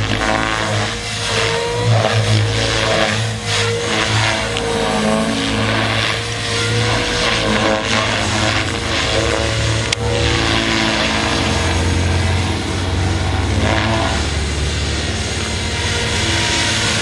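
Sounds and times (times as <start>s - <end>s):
model helicopter rotor drone: 0.0s - 17.0s.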